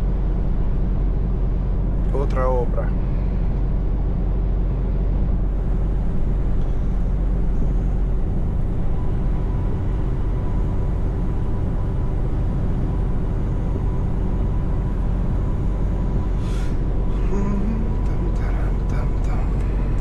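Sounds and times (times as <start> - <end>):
road and tyre noise: 0.0 - 20.0
truck engine running: 3.8 - 20.0.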